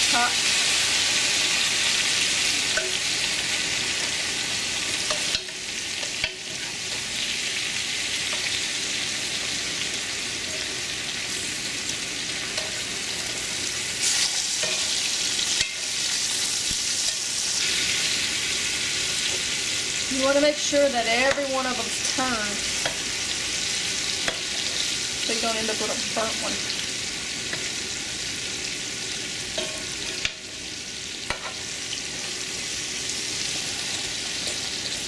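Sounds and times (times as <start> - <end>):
fish balls sizzling in oil: 0.0 - 35.0.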